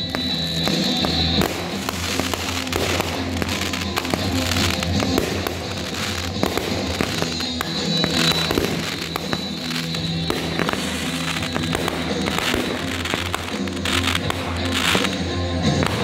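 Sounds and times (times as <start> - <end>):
fireworks popping and crackling: 0.0 - 16.0
music playing: 0.0 - 16.0.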